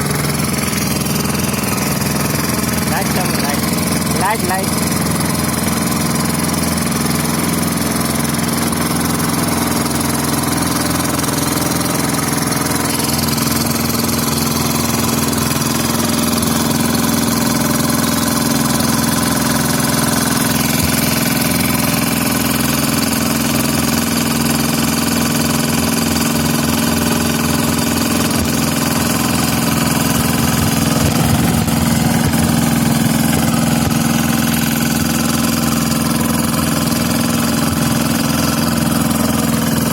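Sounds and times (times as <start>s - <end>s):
road roller engine running: 0.0s - 39.9s.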